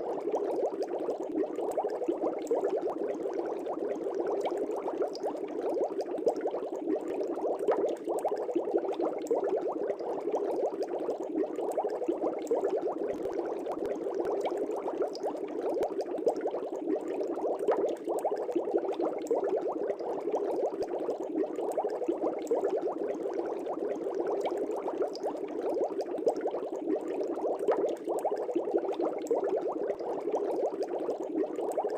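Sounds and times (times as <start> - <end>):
aquarium air bubbles: 0.0 - 31.9.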